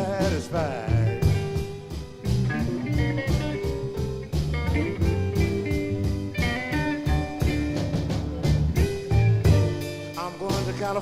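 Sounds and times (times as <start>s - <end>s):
bass: 0.0s - 11.0s
electric guitar phrases: 0.0s - 11.0s
steady drum beat: 0.0s - 11.0s.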